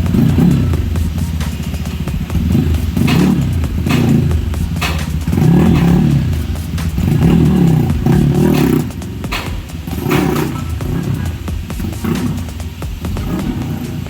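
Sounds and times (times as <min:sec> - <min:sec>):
motorcycle engine revving: 0:00.0 - 0:14.0
sharp exhaust cracks: 0:00.0 - 0:14.0.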